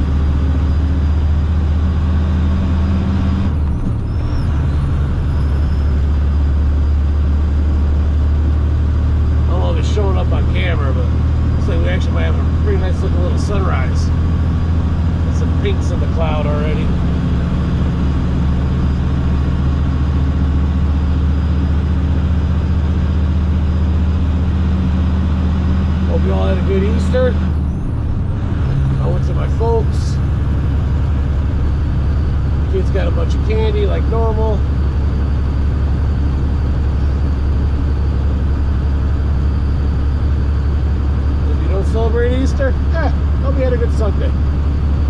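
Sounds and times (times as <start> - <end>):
road noise: 0.0 - 45.0
truck engine drone: 0.0 - 45.0.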